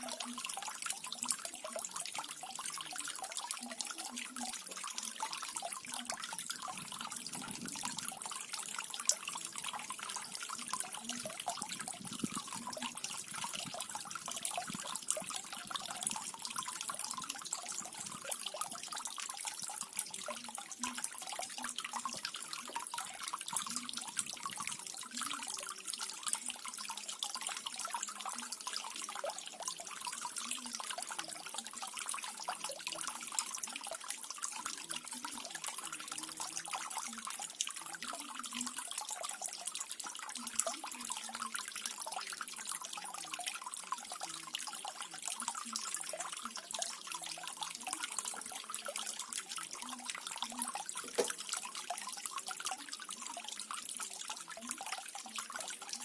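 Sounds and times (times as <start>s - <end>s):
small waterfall trickling and splashing: 0.0s - 56.0s.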